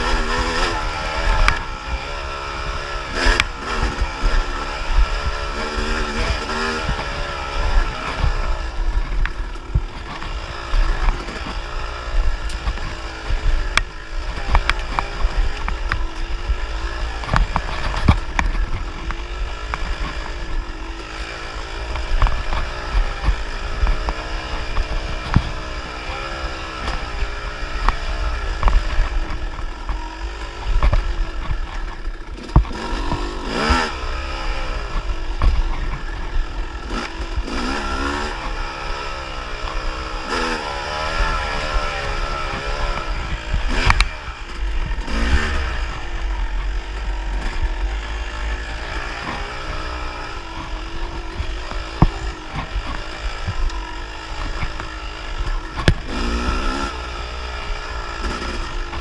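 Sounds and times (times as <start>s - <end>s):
bike knocking and rattling: 0.0s - 59.0s
dirt bike engine revving: 0.0s - 59.0s.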